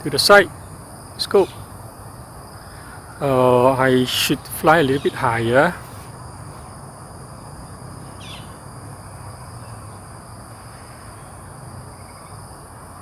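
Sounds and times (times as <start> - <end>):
high-pitched insect noise: 0.0 - 13.0.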